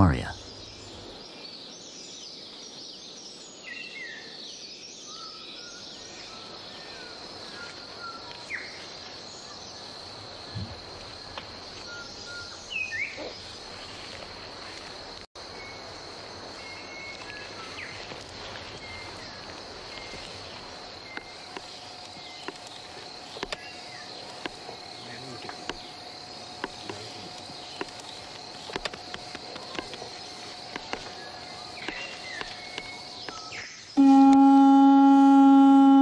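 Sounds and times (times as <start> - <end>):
insect drone: 0.0 - 36.0.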